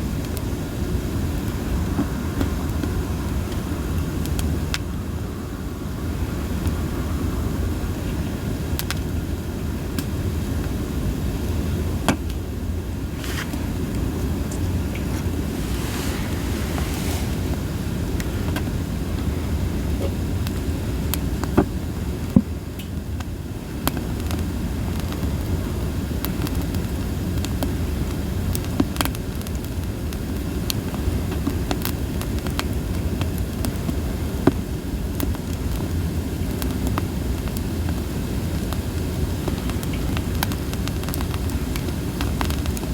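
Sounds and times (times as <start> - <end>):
campfire burning rush: 0.0 - 42.9
fire crackles and pops: 0.0 - 42.9.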